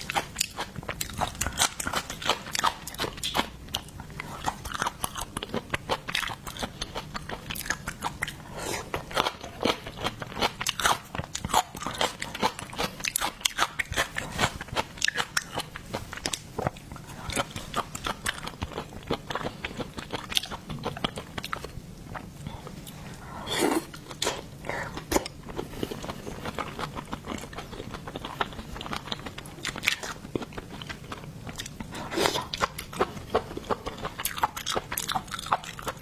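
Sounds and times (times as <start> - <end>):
crunchy chewing of seafood: 0.0 - 36.0.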